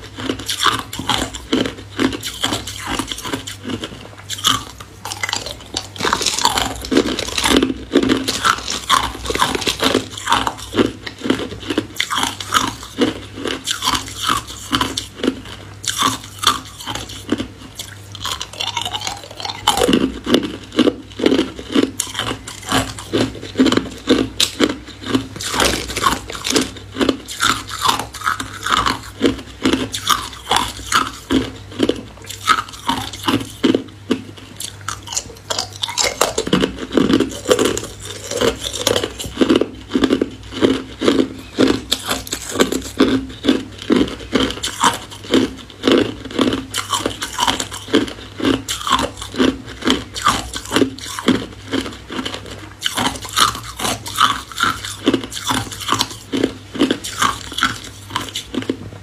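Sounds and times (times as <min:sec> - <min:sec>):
ice being chewed: 0:00.0 - 0:58.8.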